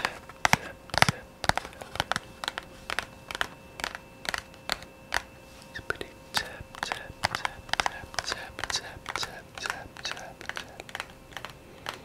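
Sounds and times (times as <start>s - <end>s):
crisp tapping clicks: 0.0s - 12.0s.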